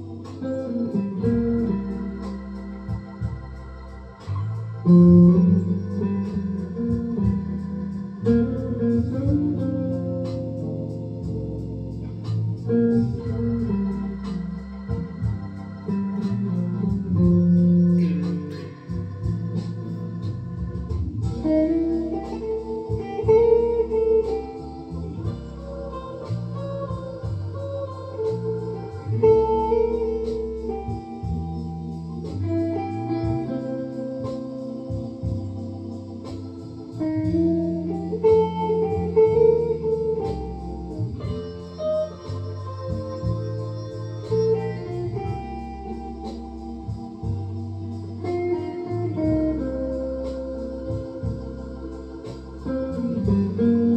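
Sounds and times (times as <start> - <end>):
electric guitar lead line: 0.0 - 53.9
held guitar chords: 0.0 - 53.9
low sustained bass notes: 0.0 - 53.9.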